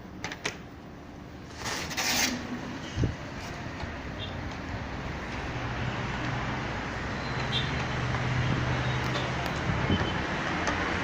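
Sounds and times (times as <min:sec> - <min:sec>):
road traffic rush: 0:00.0 - 0:11.0.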